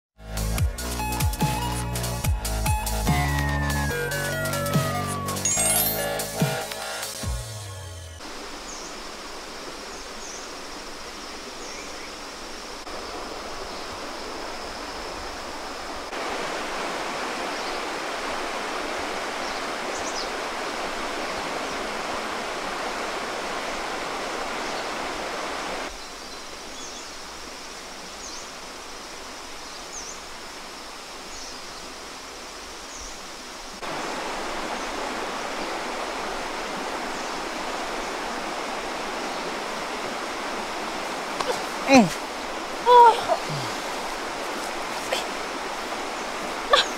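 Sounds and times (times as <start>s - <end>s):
stream rushing over rocks: 3.2s - 7.2s, 8.2s - 46.9s.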